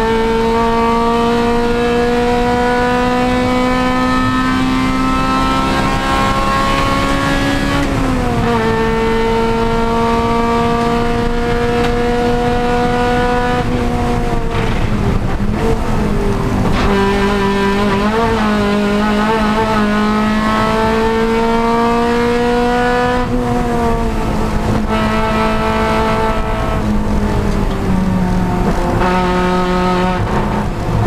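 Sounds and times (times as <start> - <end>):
race car engine pulling hard: 0.0 - 31.0.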